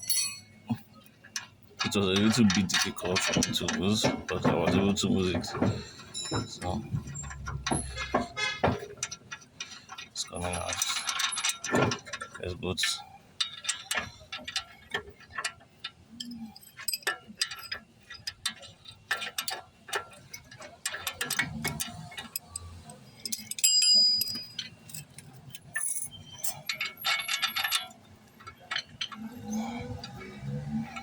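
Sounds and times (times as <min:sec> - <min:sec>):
metal tools clinking: 0:00.0 - 0:31.0.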